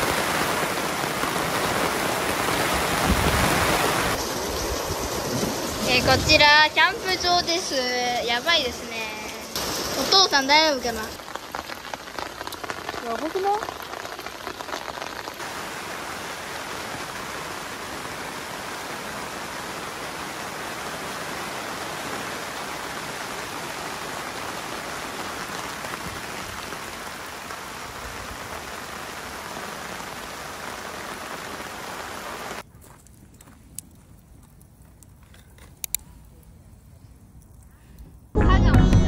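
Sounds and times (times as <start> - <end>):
heavy rain pouring: 0.0 - 32.6.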